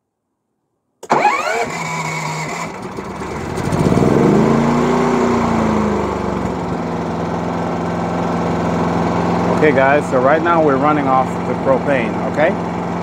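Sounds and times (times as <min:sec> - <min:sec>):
generator engine running: 0:01.0 - 0:13.0.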